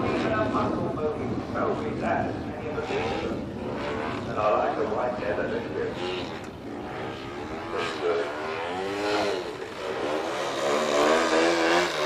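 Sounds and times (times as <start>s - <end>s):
model aeroplane engine and propeller: 0.0s - 12.0s.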